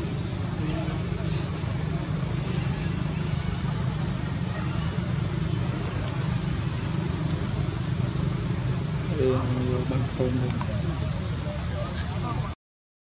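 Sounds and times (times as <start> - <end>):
high pulsing drone: 0.0 - 12.0.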